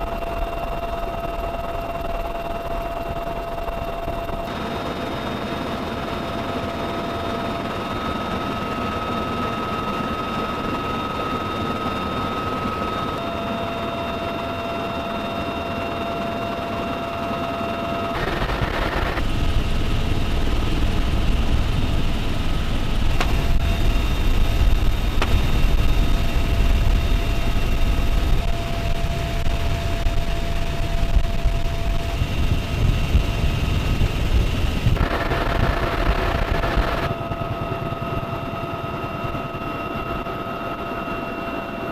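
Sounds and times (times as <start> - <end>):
helicopter rotor noise: 0.0 - 41.9
helicopter whine: 0.0 - 41.9.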